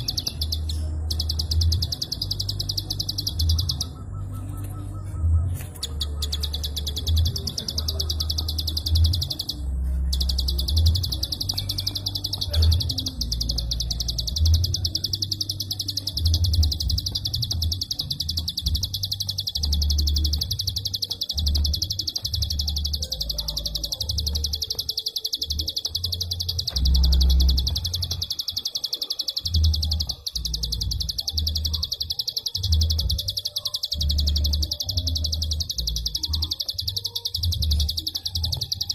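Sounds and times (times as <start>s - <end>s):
bird rapid clicking song: 0.0s - 38.9s.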